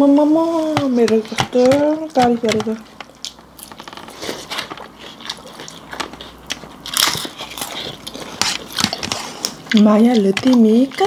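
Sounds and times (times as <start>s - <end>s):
person crunching and chewing food: 0.4s - 11.0s.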